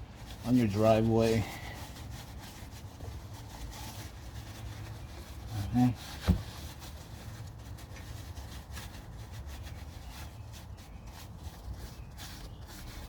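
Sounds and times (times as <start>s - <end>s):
rag wiping and rubbing: 0.1s - 13.0s.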